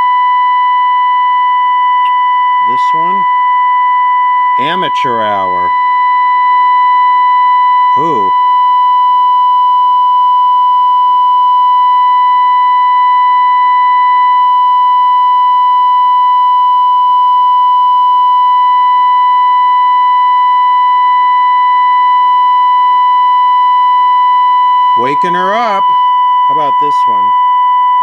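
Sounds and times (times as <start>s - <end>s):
steady test tone from radio speaker: 0.0s - 28.0s.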